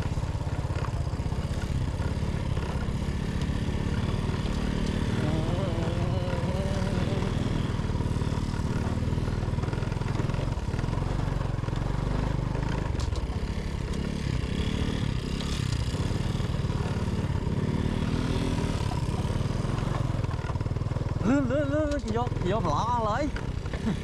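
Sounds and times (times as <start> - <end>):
small vehicle engine running: 0.0 - 24.0.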